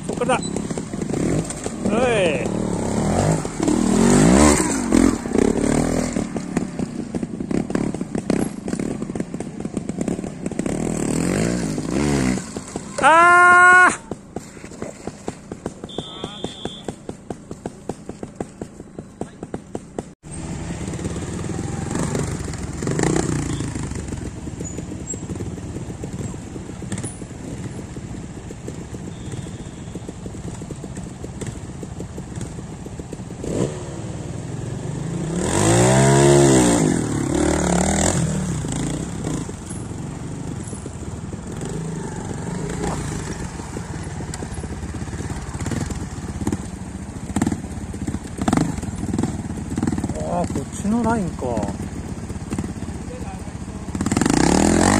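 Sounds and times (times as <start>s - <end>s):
motorcycle engine revving: 0.0s - 54.9s
motorcycle engines idling: 0.0s - 54.9s.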